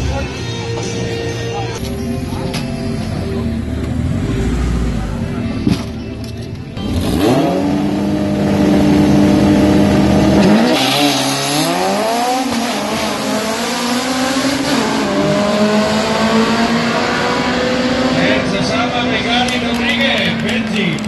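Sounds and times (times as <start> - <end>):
race car engine revving: 1.8 - 6.0, 6.8 - 21.0.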